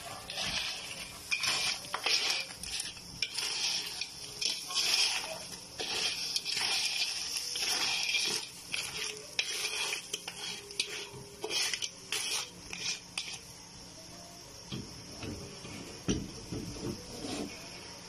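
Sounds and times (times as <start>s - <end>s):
stirring scraping in a pan: 0.0s - 13.6s, 16.7s - 17.7s
crabs sizzling in a pan: 0.0s - 18.0s.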